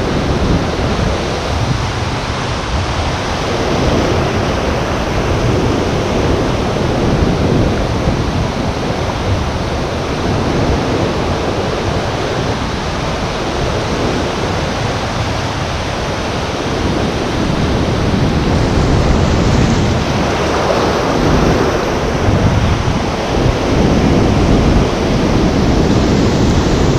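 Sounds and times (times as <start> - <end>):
ocean surf breaking: 0.0 - 26.9
wind buffeting microphone: 0.0 - 26.9.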